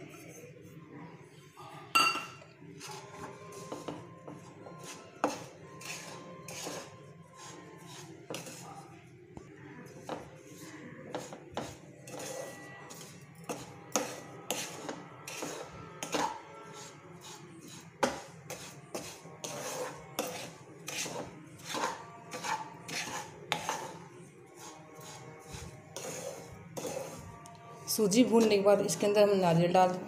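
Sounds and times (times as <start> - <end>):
spatula scraping dry mixture in pan: 2.6 - 9.0, 9.6 - 29.3.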